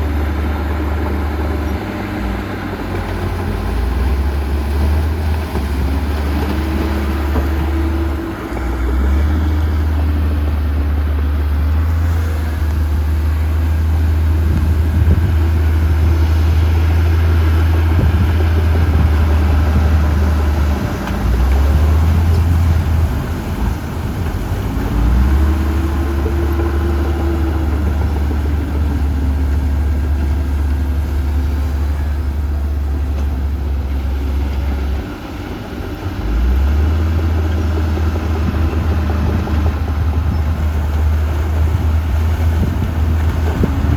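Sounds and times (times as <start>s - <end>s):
heavy machinery diesel engine: 0.0s - 43.9s.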